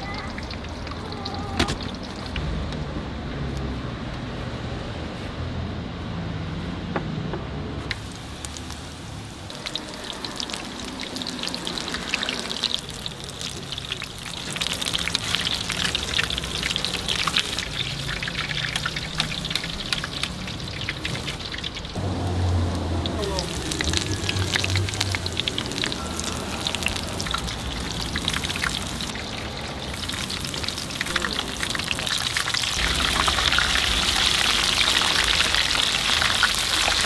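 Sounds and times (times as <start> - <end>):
shrimp deep-frying in hot oil: 0.0 - 2.6, 7.9 - 37.0.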